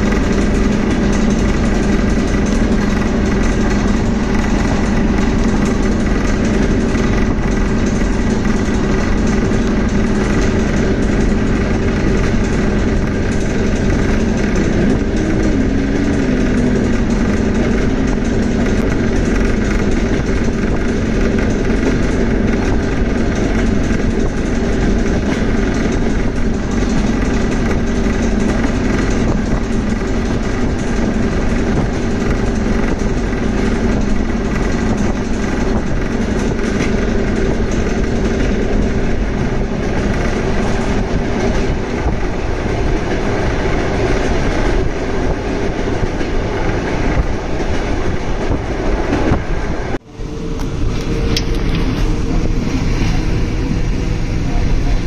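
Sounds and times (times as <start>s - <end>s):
train rumbling in motion: 0.0s - 55.0s.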